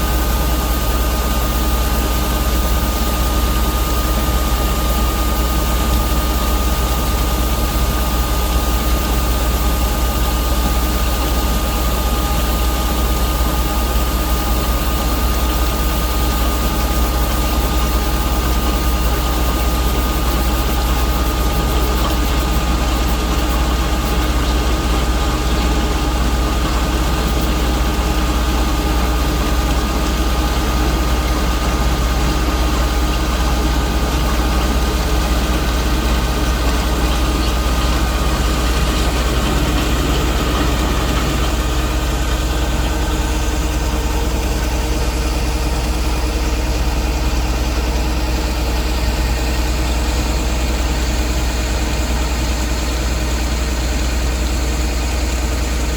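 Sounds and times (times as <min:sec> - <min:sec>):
faint steady whine: 0:00.0 - 0:55.8
combine harvester engine droning: 0:00.0 - 0:55.9.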